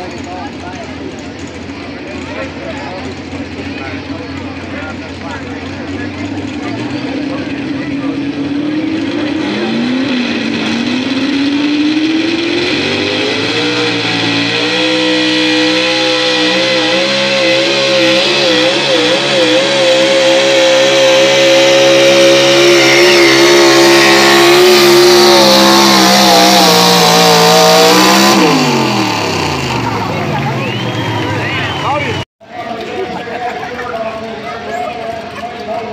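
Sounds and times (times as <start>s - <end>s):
truck engine at full throttle: 0.0s - 35.9s.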